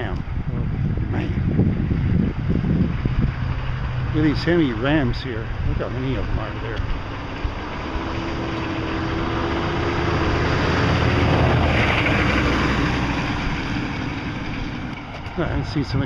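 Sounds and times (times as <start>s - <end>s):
vehicle driving past: 1.6s - 16.0s.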